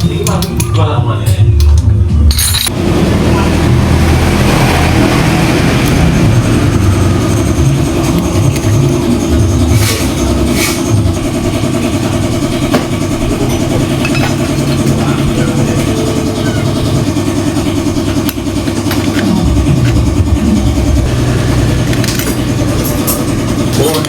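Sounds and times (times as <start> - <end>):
engine running: 2.2 - 24.0.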